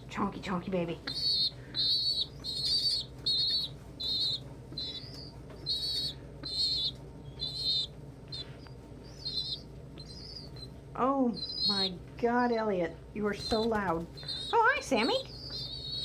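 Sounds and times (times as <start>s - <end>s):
young pigeon squealing: 1.1s - 10.8s, 11.4s - 12.0s, 13.4s - 16.0s.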